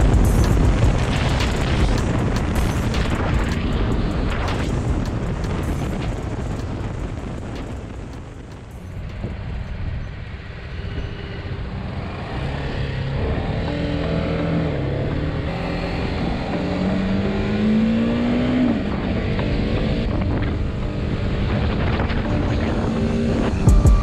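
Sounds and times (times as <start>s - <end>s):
motorcycle engine accelerating: 0.0s - 10.1s, 10.7s - 24.0s
wind noise on microphone: 0.0s - 24.0s.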